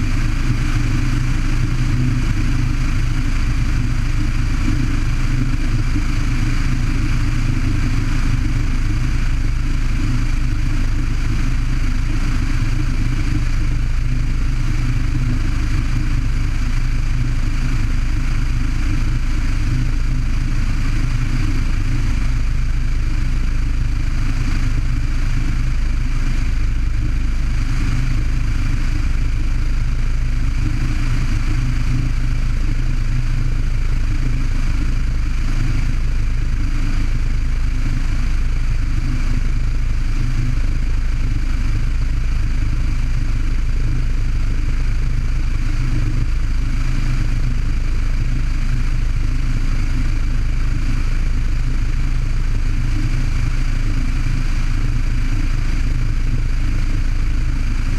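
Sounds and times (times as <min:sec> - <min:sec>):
propeller aircraft engine droning: 0:00.0 - 0:57.9.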